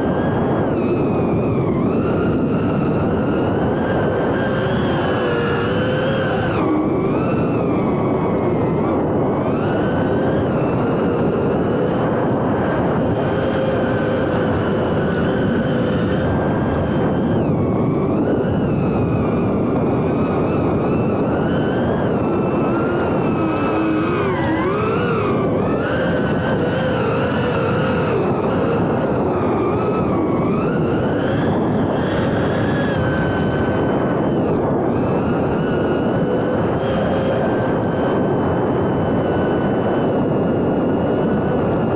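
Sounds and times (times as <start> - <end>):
drone motors and propellers whining: 0.0 - 41.9.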